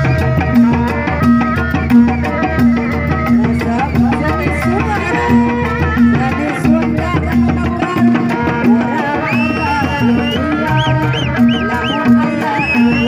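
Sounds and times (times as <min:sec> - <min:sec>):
hand drums: 0:00.0 - 0:13.0.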